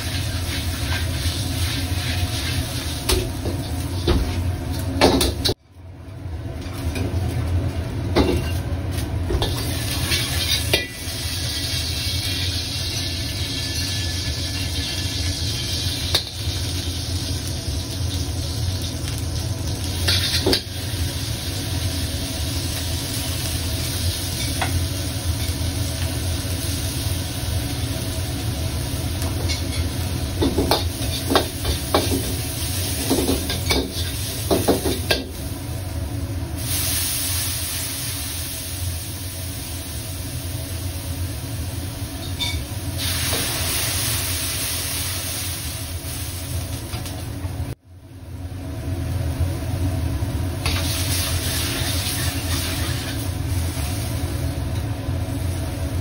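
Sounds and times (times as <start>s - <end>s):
food sizzling in a pan: 0.0s - 5.6s, 7.0s - 47.8s, 49.2s - 56.0s.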